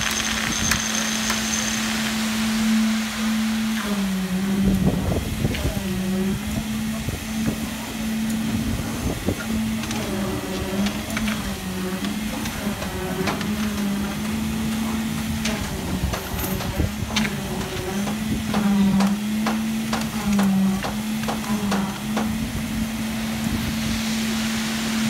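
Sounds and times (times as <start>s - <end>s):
concrete vibrator drone: 0.0s - 25.0s.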